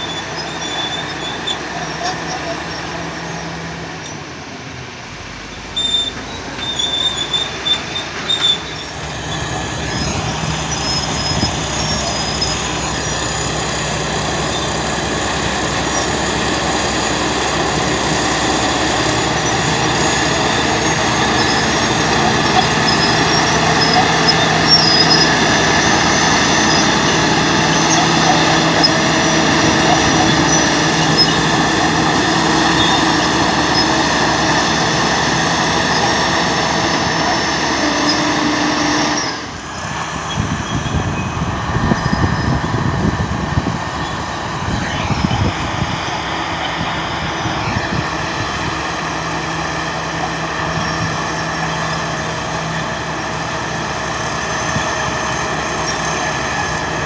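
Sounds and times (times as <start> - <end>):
high squeals: 0.0 - 4.3, 5.4 - 57.0
bulldozer diesel engine under load: 0.0 - 57.0.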